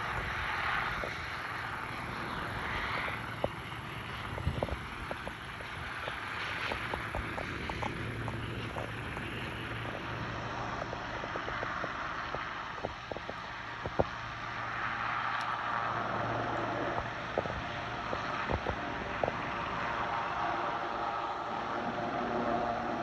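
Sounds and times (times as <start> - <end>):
helicopter rotors and turbine: 0.0 - 23.0.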